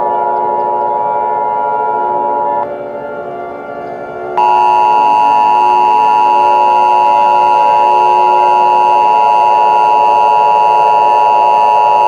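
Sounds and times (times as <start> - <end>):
two-tone electronic alert drone: 0.0 - 12.0.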